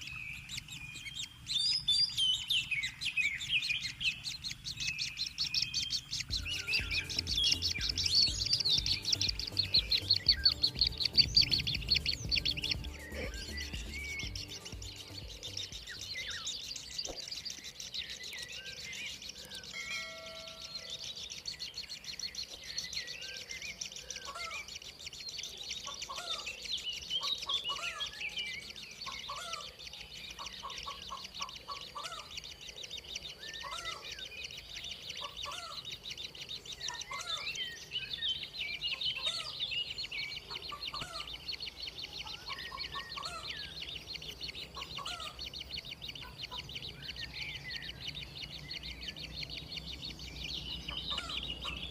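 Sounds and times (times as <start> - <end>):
birds chirping and calling: 0.0 - 51.9.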